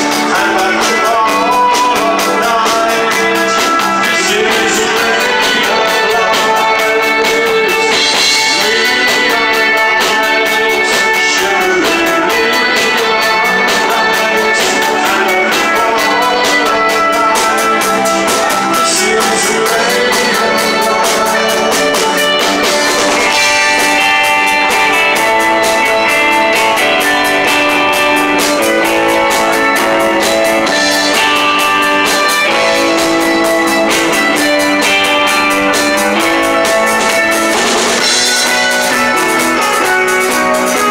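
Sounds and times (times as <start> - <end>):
drum kit: 0.0 - 40.9
electric guitars: 0.0 - 40.9.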